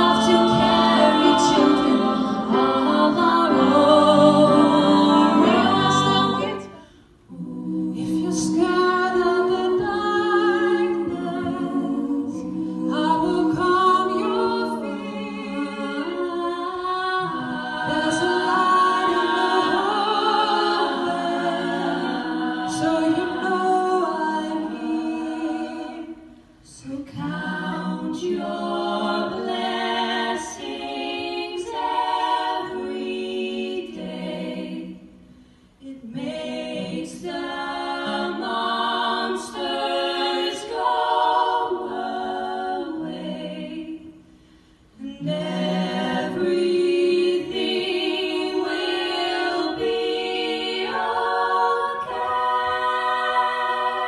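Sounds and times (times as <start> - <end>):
women singing a cappella harmony: 0.0 - 54.0.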